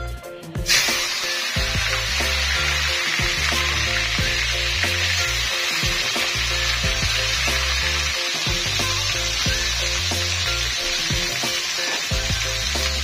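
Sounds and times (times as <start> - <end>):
background music with bassline: 0.0 - 13.0
onions sizzling in hot oil: 0.7 - 13.0.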